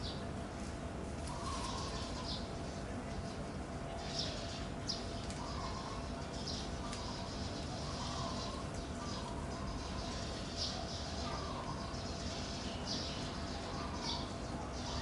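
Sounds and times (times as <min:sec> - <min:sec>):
steady background hiss: 0:00.0 - 0:15.0
faint wavering bird calls: 0:01.2 - 0:15.0
birds chirping: 0:01.3 - 0:15.0.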